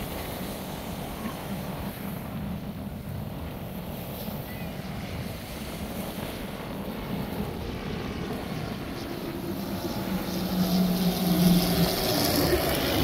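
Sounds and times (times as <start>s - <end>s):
propeller plane engines droning: 0.0s - 13.0s
surf: 0.0s - 13.0s
wind: 0.0s - 13.0s.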